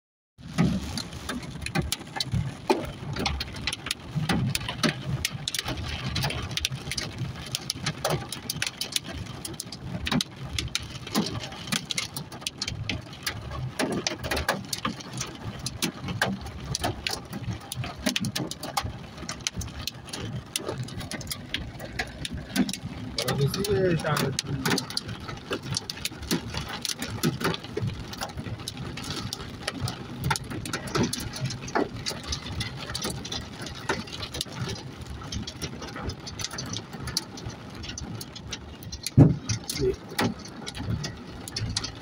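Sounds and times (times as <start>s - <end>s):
car engine and tyres rumbling: 0.4s - 42.0s
heavy rain on car windshield: 0.4s - 42.0s.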